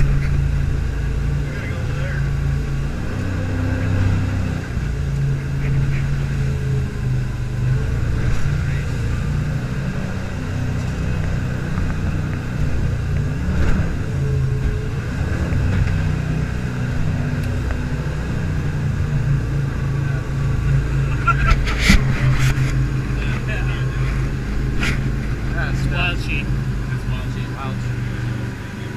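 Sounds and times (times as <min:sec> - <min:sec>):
boat engine droning: 0:00.0 - 0:28.9
wind: 0:00.0 - 0:28.9.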